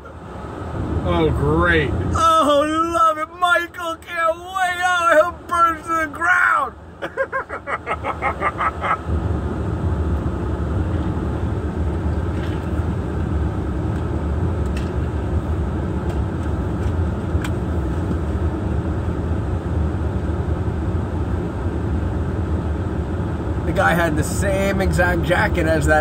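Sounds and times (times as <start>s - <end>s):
idling vehicle engines: 0.0s - 26.0s.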